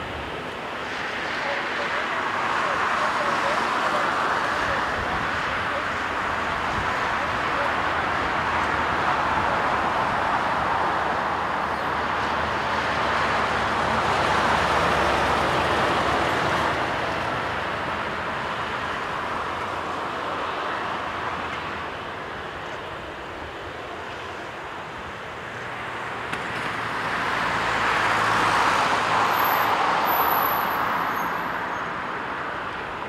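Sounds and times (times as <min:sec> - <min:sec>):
jet engines at takeoff thrust: 0:00.0 - 0:30.4.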